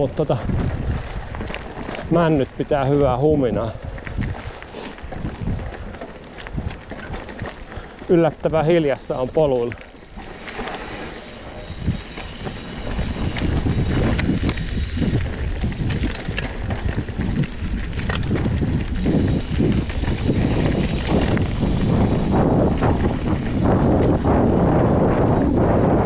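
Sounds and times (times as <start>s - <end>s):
bike clicks and rattles: 0.0s - 26.0s
wind rumbling on microphone: 0.0s - 26.0s.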